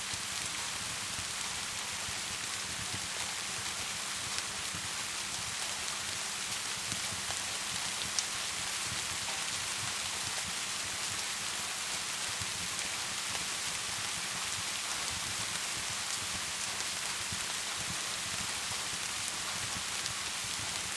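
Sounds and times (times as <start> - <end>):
rain: 0.0 - 20.9
wood fire crackling: 0.2 - 20.9.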